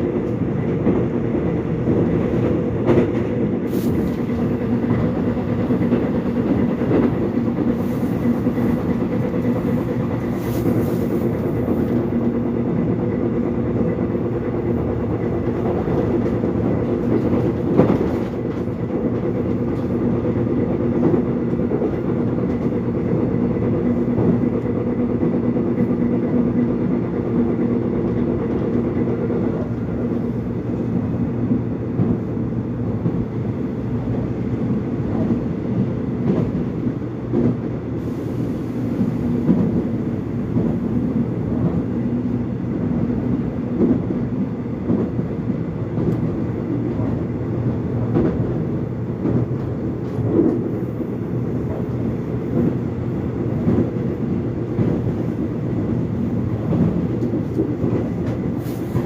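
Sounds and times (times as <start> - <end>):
subway train rumble inside carriage: 0.0 - 59.0.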